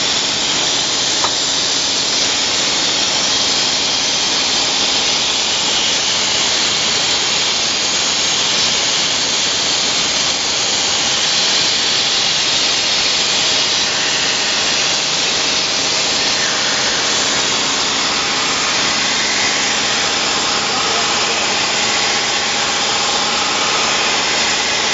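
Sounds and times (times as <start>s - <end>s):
machine hissing: 0.0s - 24.9s.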